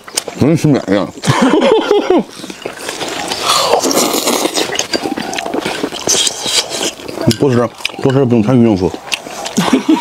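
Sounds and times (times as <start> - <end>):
slurping and chewing: 0.0 - 10.0.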